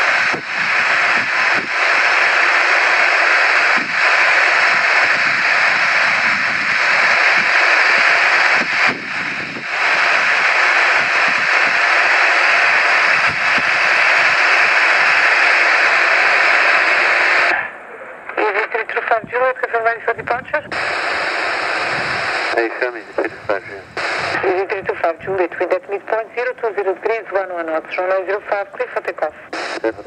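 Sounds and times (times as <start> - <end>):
jet engine with high whine: 0.0 - 27.2.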